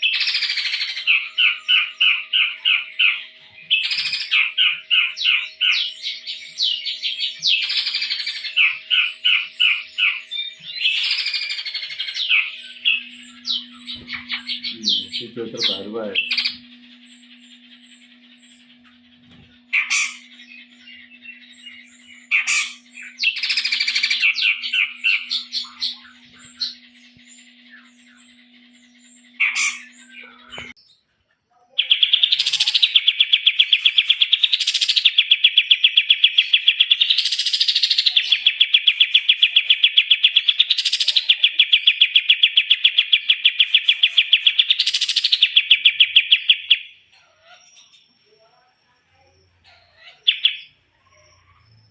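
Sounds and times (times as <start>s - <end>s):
rapid bird trill: 0.0s - 31.0s, 31.8s - 48.1s, 49.3s - 51.9s
faint steady hum: 0.0s - 51.9s
songbird chirps and calls: 0.0s - 51.9s.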